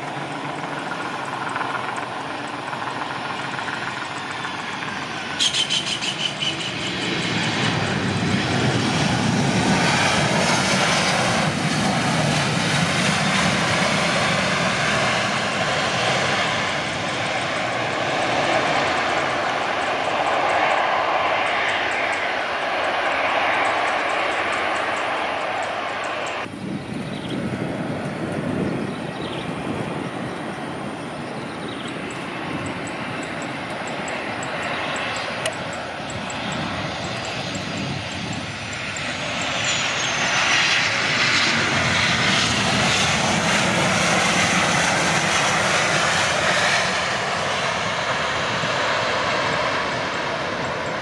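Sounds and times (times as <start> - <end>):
jet engines during landing: 0.0 - 51.0.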